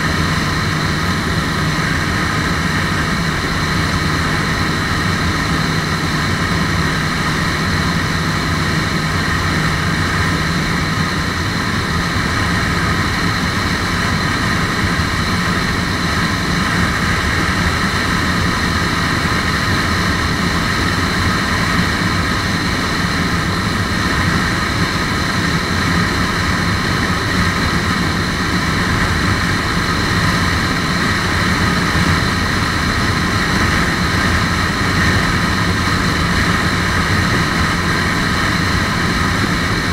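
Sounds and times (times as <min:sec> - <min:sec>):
motorcycle engine at high revs: 0:00.0 - 0:39.9
wind rush over microphone: 0:00.0 - 0:39.9.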